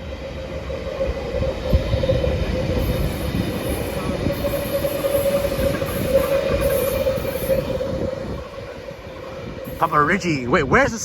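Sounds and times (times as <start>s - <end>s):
electric train rumble: 0.0s - 11.0s.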